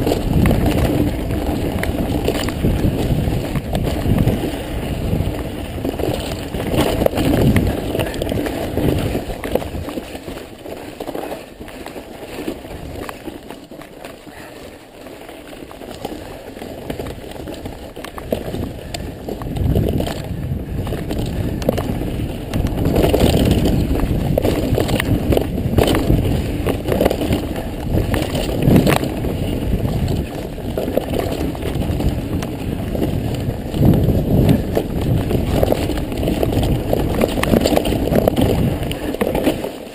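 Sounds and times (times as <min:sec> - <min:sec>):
bike rattling over bumps: 0:00.0 - 0:39.9
bike tyres rolling on dirt: 0:00.0 - 0:39.9.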